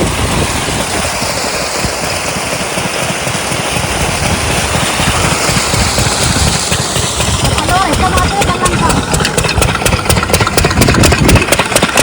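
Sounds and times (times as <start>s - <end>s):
loud even rushing noise: 0.0s - 11.5s
diesel water pump engine chugging: 0.0s - 12.0s.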